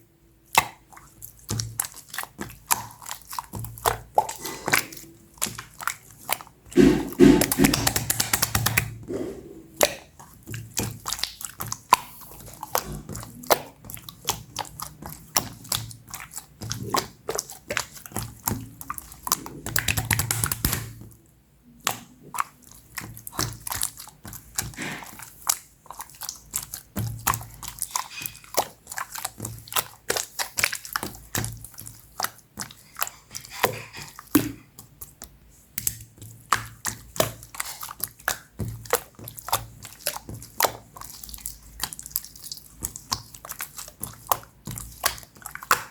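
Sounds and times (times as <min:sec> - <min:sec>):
slime squishing: 0:00.0 - 0:45.9.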